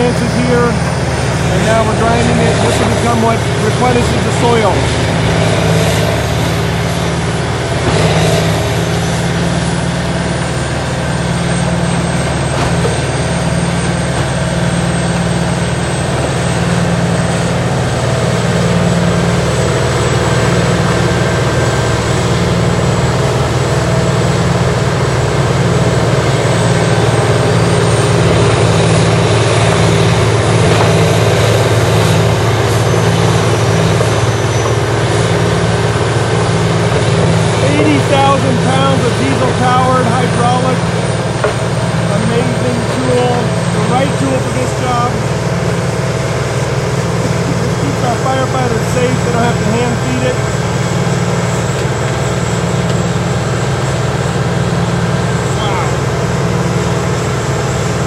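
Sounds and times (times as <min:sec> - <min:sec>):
grinder diesel engine: 0:00.0 - 0:58.0
grinding branches: 0:00.0 - 0:58.0.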